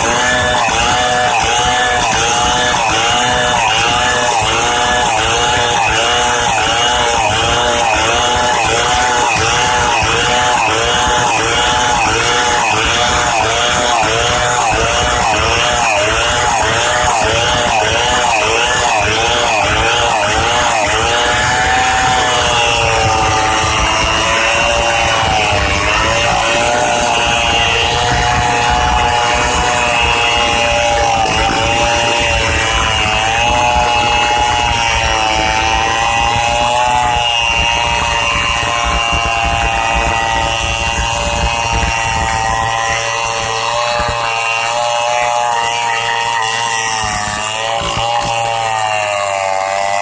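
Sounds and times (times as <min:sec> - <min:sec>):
chainsaw cutting log: 0:00.0 - 0:50.0.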